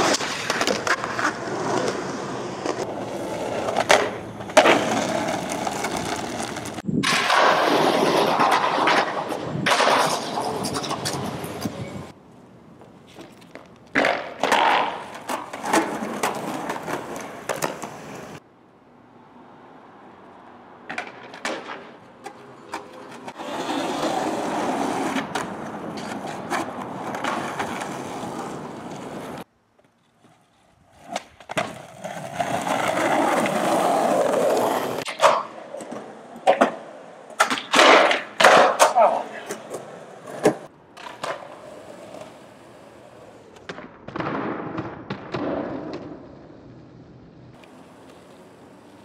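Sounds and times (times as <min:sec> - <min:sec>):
skateboard clacking on ground: 0:00.0 - 0:12.2, 0:12.8 - 0:18.4, 0:20.8 - 0:46.2, 0:47.5 - 0:49.0
skateboard wheels rolling on concrete: 0:00.0 - 0:49.0.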